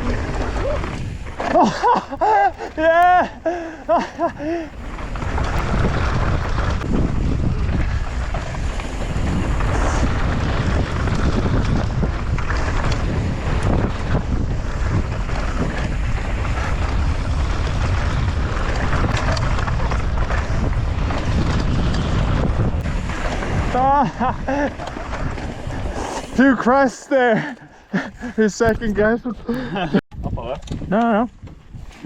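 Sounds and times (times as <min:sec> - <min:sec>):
bike rattling over rough ground: 0:00.0 - 0:32.0
wind rushing over microphone: 0:00.0 - 0:32.0.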